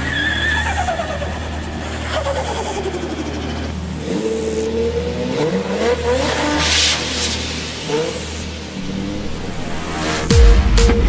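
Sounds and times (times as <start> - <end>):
motocross bike engines revving: 0.0 - 10.3.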